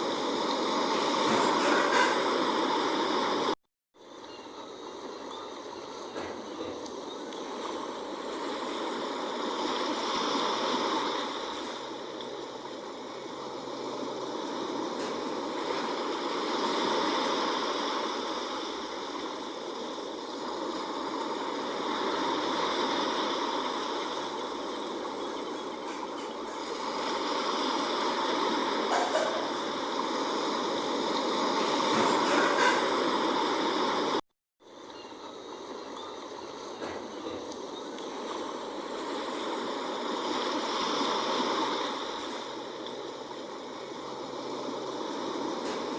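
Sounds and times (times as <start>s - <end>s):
sea waves washing ashore: 0.0s - 45.9s.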